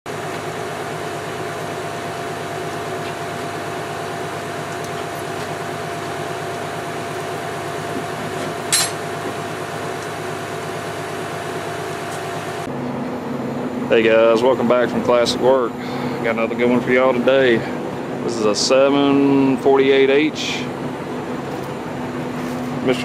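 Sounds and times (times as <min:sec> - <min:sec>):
engine running: 0:00.1 - 0:23.0.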